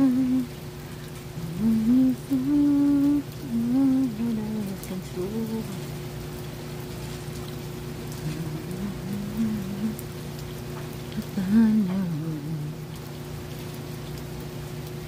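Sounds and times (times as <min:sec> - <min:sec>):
rain falling: 0:00.0 - 0:15.0
steady low hum: 0:00.0 - 0:15.0.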